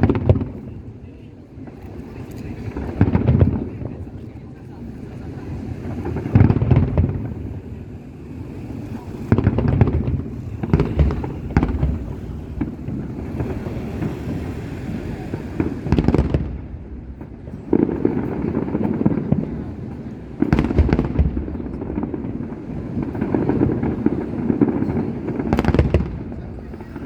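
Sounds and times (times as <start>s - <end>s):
fireworks booming: 0.0s - 27.0s
fireworks rumble and crackle: 0.0s - 27.0s.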